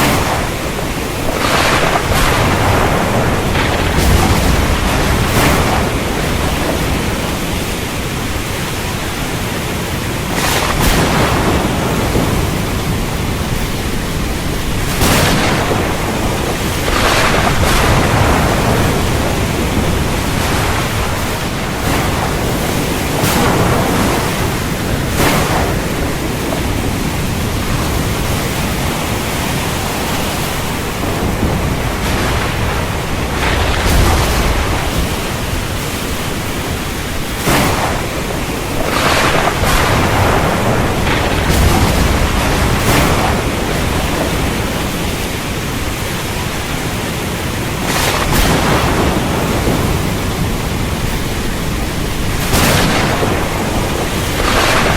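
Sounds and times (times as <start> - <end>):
heavy rain hissing: 0.0 - 54.9
thunder cracks and rumbles: 0.0 - 54.9.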